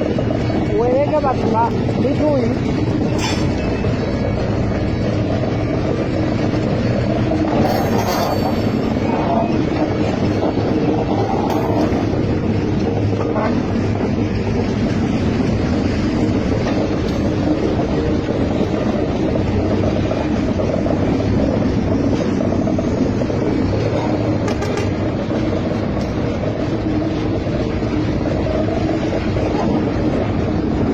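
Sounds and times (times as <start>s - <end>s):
freight train rumble: 0.0s - 30.9s
low engine hum: 0.0s - 30.9s.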